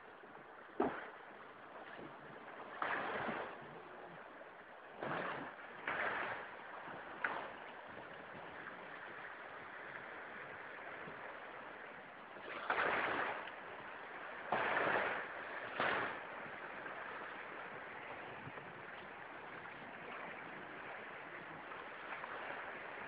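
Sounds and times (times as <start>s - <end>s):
rushing water: 0.0s - 23.0s
water swooshes: 0.0s - 23.0s
wind: 0.0s - 23.0s.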